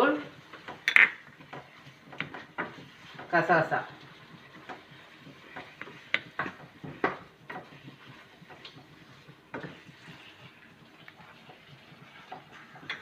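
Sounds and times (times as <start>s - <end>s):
spoon scraping a cooking pot: 0.2s - 3.3s, 3.9s - 13.0s.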